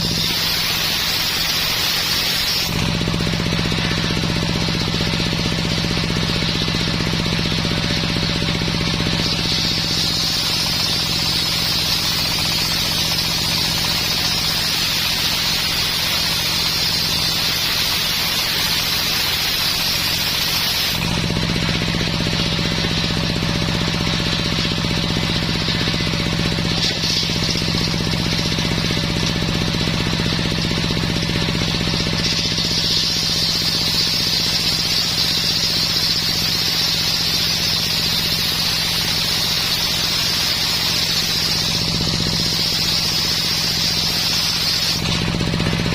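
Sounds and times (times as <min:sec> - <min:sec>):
circular saw blade cutting wood: 0:00.0 - 0:45.9
sawmill engine hum: 0:00.0 - 0:45.9.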